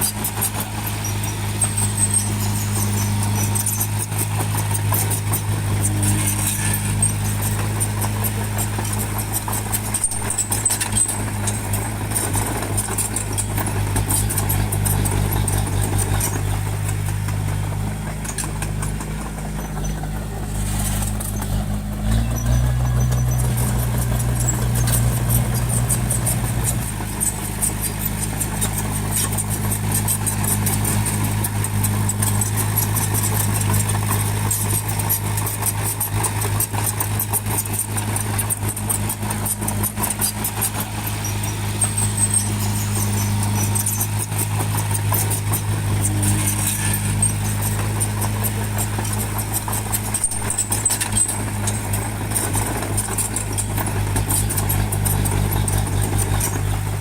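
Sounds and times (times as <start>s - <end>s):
bulldozer diesel engine running: 0.0s - 57.0s
fast metallic rattle: 0.0s - 57.0s.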